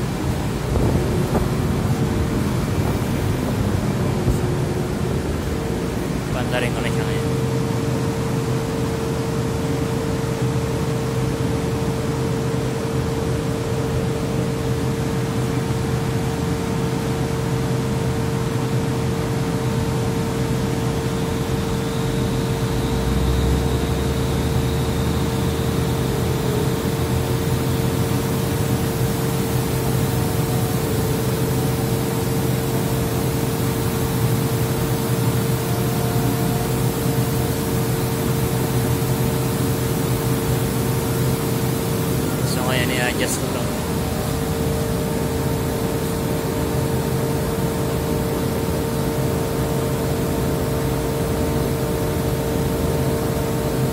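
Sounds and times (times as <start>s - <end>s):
air compressor whirring: 0.0s - 11.8s, 20.2s - 53.9s.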